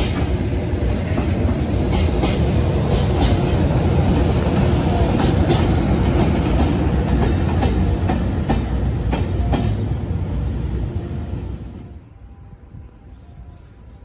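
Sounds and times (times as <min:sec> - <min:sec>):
electric locomotive rumbling past: 0:00.0 - 0:14.0.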